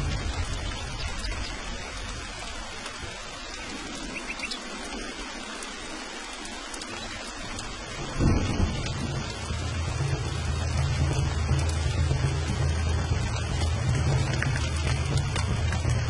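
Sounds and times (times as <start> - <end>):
low rumble of thunder: 0.0 - 5.2, 7.0 - 16.0
rain hissing: 0.0 - 16.0.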